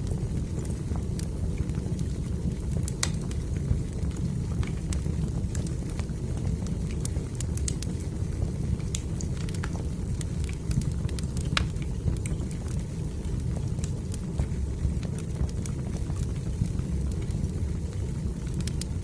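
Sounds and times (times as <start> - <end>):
fire low rumble: 0.0 - 19.0
wood fire crackling and popping: 0.0 - 19.0.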